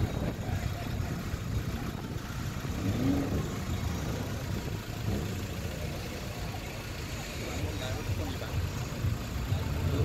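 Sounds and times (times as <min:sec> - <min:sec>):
car engines idling: 0:00.0 - 0:10.0.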